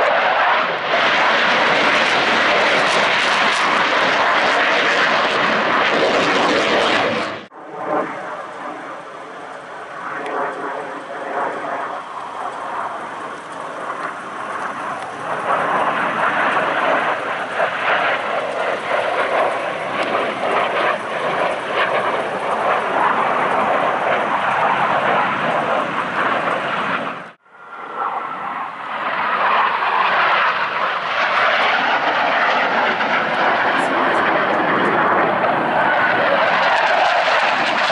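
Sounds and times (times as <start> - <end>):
jet flying past: 0.0 - 37.9.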